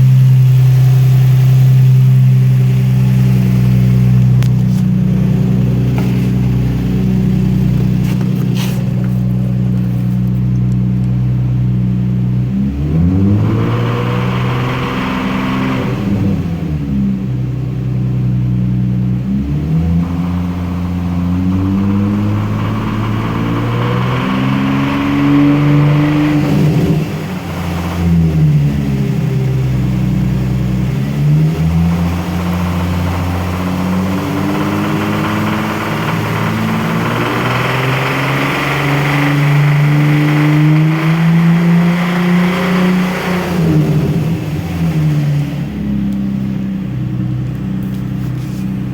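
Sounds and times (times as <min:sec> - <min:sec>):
engine ticking: 0:00.0 - 0:12.4, 0:20.0 - 0:48.9
car engine idling and revving: 0:00.0 - 0:48.9.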